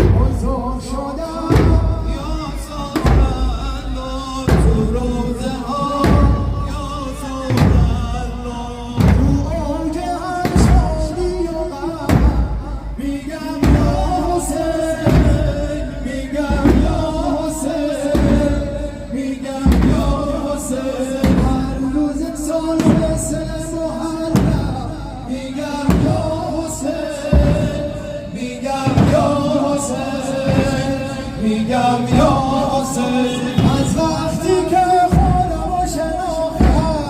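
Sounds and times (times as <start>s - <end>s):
heavy drum beat: 0.0s - 37.0s.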